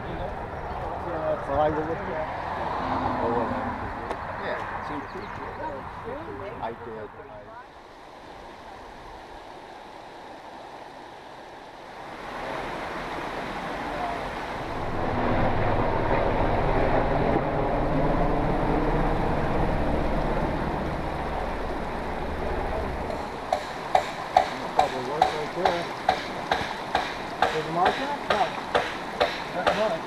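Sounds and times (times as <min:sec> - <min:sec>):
rushing stream water: 0:00.0 - 0:30.0.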